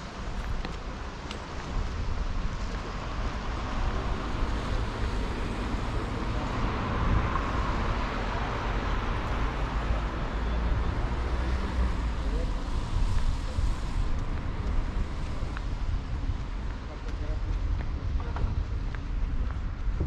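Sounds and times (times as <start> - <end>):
wind on microphone: 0.0 - 10.2, 11.6 - 20.0
road traffic: 0.0 - 20.0.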